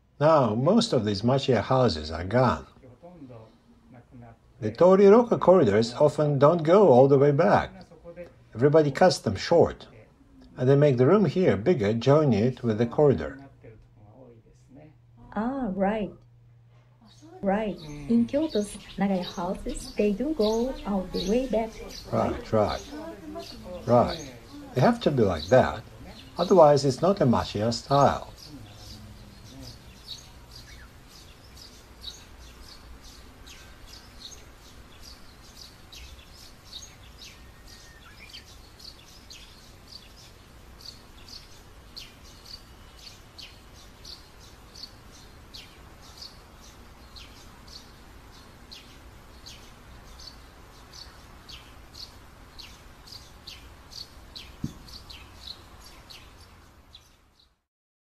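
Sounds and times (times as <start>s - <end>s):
faint low hum: 0.0s - 57.5s
small birds chirping: 0.0s - 57.7s.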